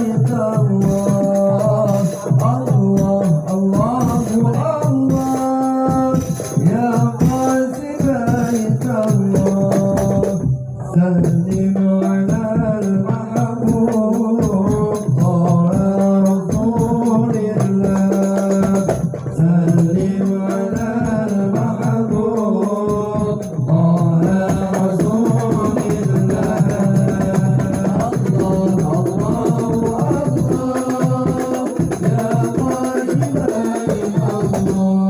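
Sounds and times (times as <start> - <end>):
instrumental backing with percussion: 0.0 - 35.0
person singing devotional song: 0.0 - 35.0.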